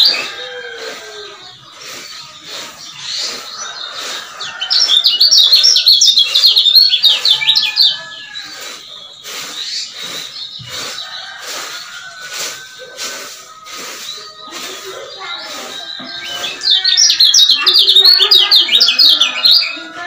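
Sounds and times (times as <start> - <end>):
bird singing high chirps: 0.0 - 20.0.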